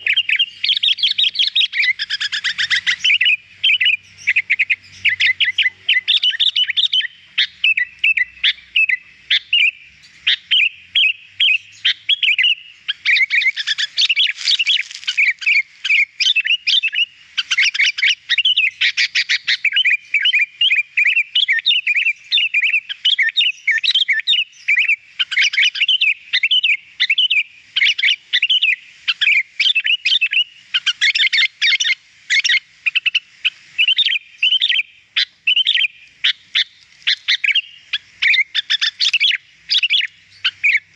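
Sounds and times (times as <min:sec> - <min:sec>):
bird singing chirps and whistles: 0:00.0 - 0:40.9.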